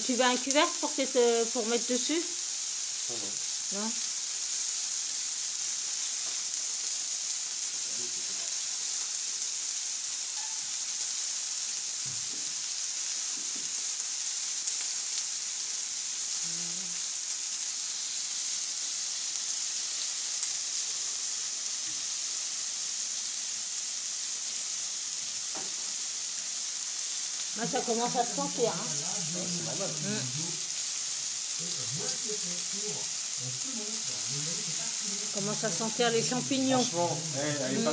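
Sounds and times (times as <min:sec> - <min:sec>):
vegetables sizzling on a griddle: 0:00.0 - 0:37.9.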